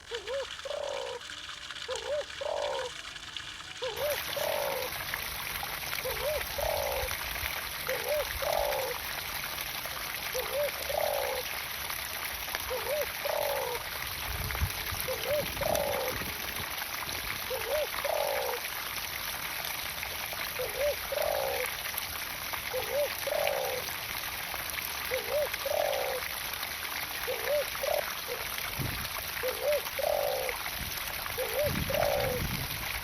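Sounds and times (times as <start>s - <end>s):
water splashing into pond: 0.0s - 33.0s.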